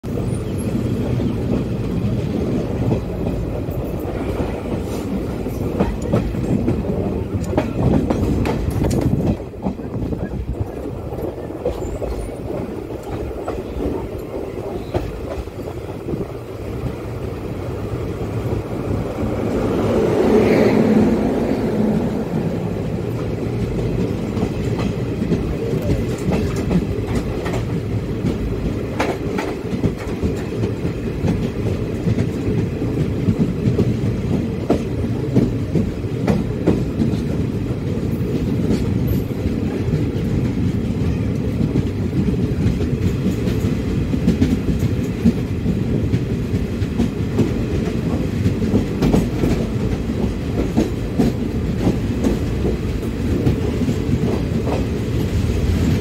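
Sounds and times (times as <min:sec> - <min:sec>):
freight train passing: 0:00.0 - 0:56.0
train wheels clickety-clack: 0:00.0 - 0:56.0.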